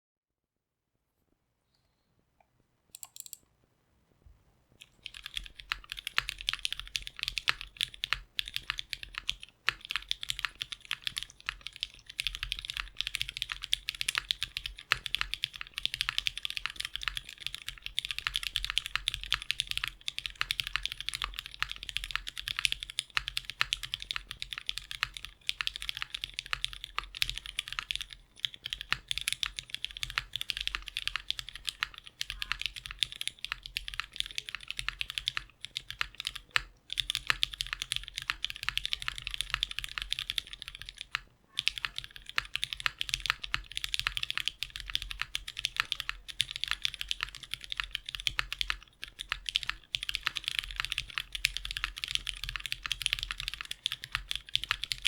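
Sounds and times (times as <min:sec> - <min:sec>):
fast typing on mechanical keyboard: 0:03.0 - 0:03.4, 0:04.8 - 0:55.0.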